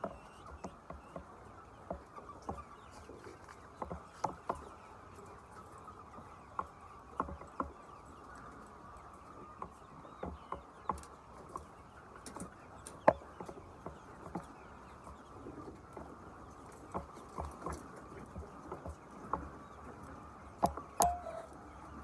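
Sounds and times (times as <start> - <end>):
chickens calling softly: 0.0 - 22.0.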